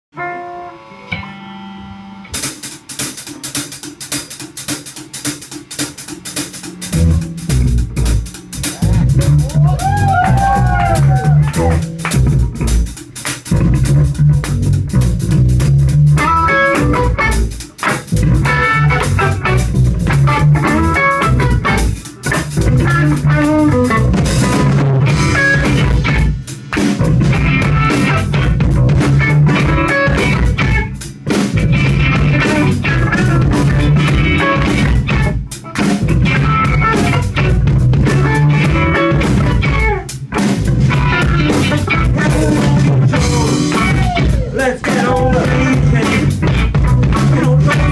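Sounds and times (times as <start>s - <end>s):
electric guitar: 0.1s - 3.6s, 6.5s - 47.9s
bass guitar: 0.1s - 47.9s
drum kit: 2.3s - 47.9s.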